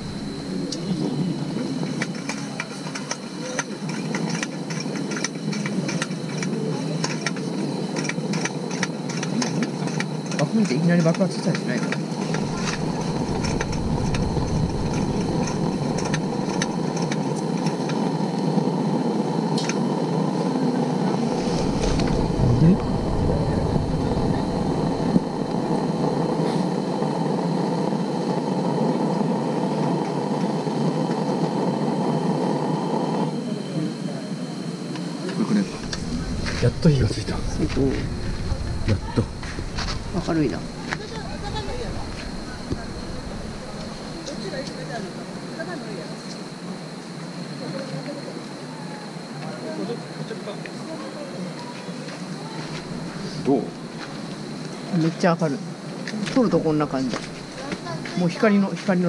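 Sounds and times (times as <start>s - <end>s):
lantern hissing: 0.0s - 47.5s, 51.6s - 59.0s.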